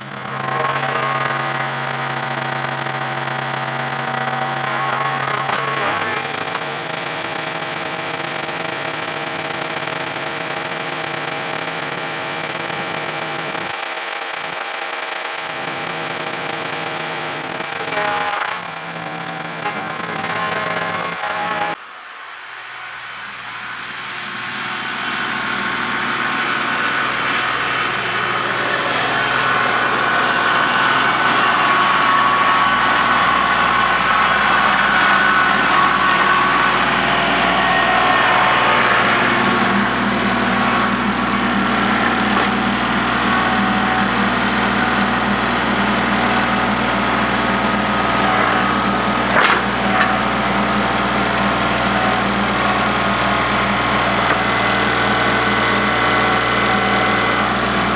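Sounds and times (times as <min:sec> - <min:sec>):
loader engine running: 0:00.0 - 0:12.7, 0:23.2 - 0:57.9.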